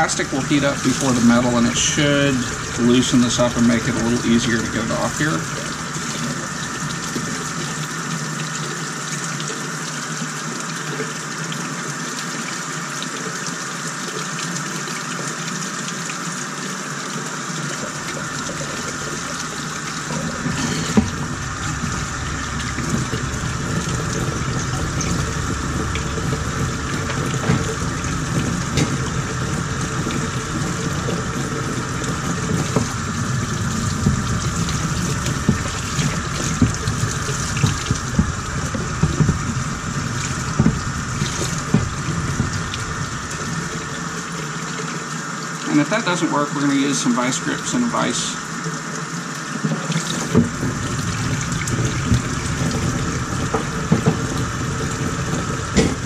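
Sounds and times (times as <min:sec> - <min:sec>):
faucet water splashing into sink: 0:00.0 - 0:56.0.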